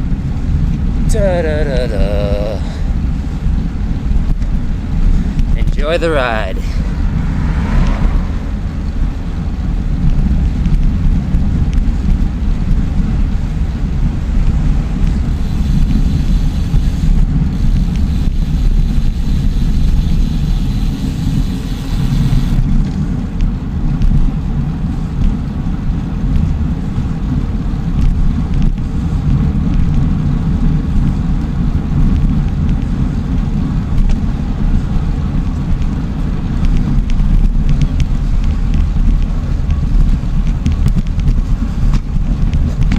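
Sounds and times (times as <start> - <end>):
bicycle road noise: 0.0 - 42.9
wind rumble on microphone: 0.0 - 42.9.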